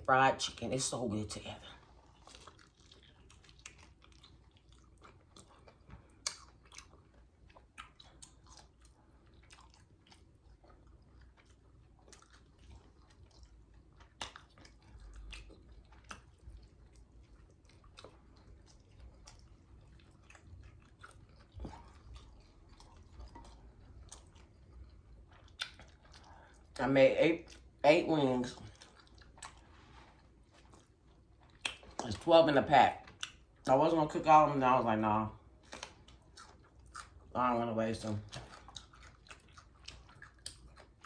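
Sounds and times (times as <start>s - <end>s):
crunchy chewing: 1.8s - 26.7s, 28.4s - 32.2s, 35.6s - 37.3s, 38.2s - 41.0s.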